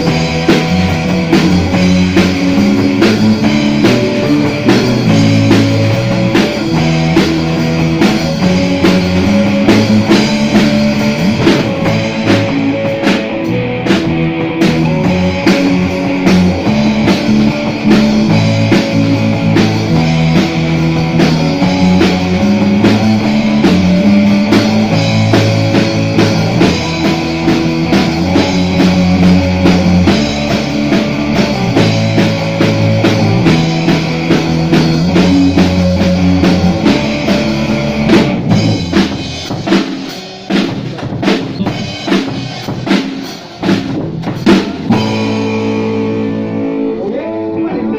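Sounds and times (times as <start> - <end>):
drum kit steady beat: 0.0 - 47.0
bass guitar line: 0.0 - 47.9
electric guitar playing: 0.0 - 47.9.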